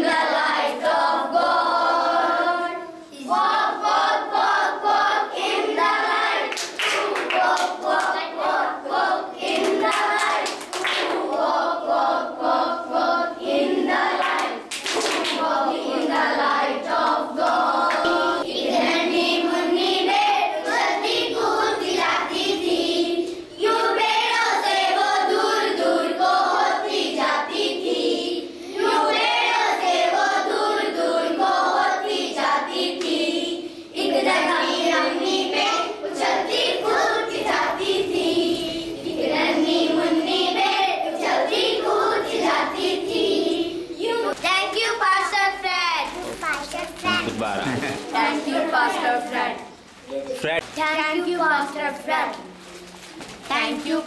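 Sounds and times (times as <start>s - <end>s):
children singing together: 0.0s - 45.6s, 47.0s - 49.8s.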